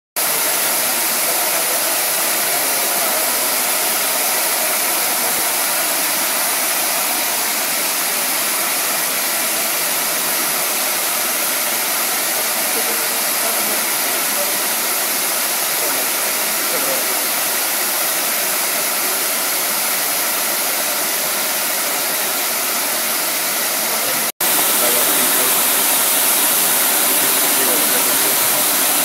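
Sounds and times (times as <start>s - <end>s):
milling spindle whirring: 0.2s - 29.0s.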